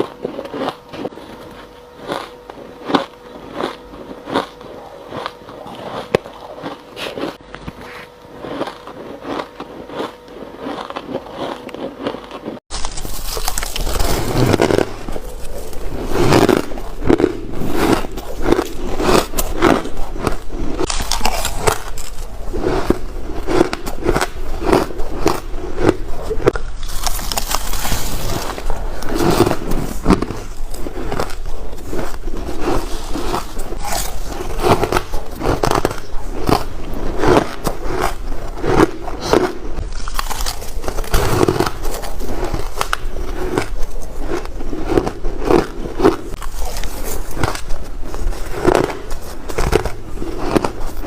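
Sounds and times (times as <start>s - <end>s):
ice being chewed: 0.0s - 51.0s.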